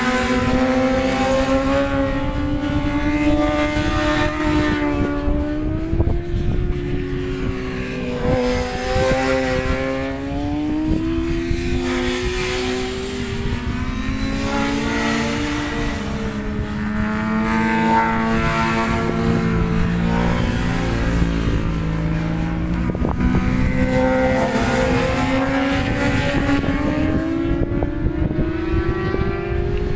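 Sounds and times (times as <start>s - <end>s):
racing motorcycles passing: 0.0s - 29.9s
wind buffeting microphone: 0.0s - 29.9s.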